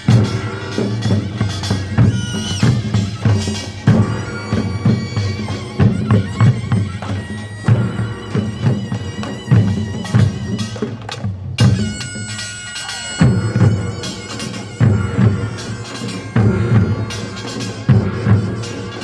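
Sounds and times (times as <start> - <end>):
drums struck in driving rhythm: 0.0 - 19.0
loud wind instrument: 0.0 - 19.0.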